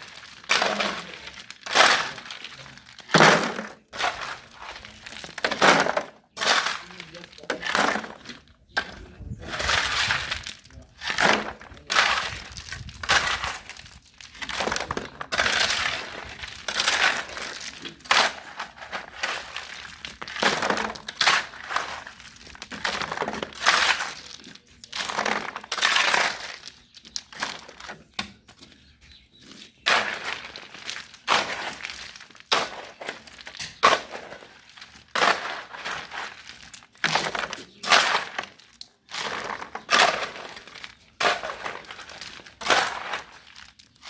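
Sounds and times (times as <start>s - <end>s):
shovel scraping gravel: 0.0s - 28.1s, 29.4s - 44.0s.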